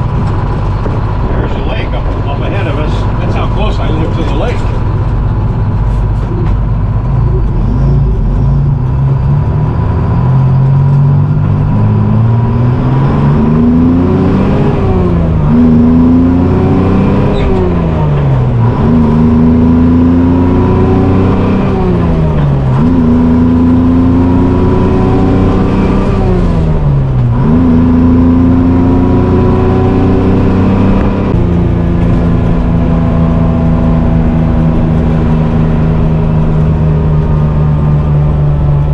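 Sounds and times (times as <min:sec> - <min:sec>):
truck diesel engine revving: 0:00.0 - 0:38.9.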